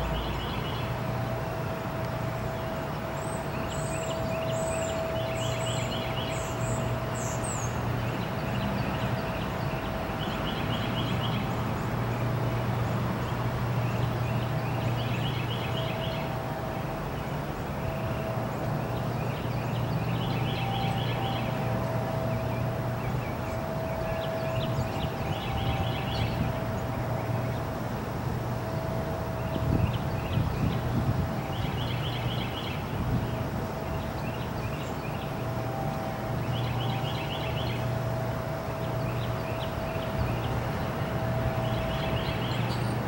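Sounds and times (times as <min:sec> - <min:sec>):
distant traffic rumble: 0:00.0 - 0:43.0
faint steady whine: 0:00.0 - 0:43.0
songbirds trilling: 0:00.0 - 0:43.0.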